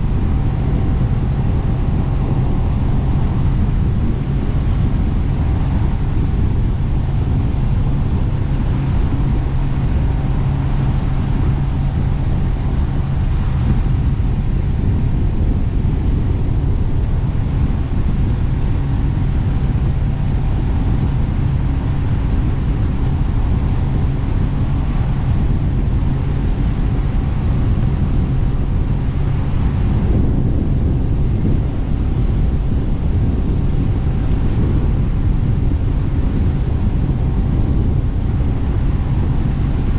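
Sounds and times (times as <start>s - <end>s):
boat engine drone: 0.0s - 39.9s.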